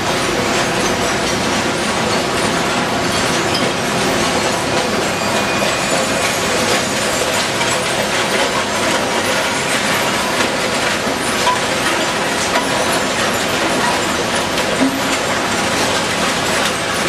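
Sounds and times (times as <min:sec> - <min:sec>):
conveyor belts and sorting machinery: 0:00.0 - 0:17.0
rattle and clatter of recyclables: 0:00.0 - 0:17.0.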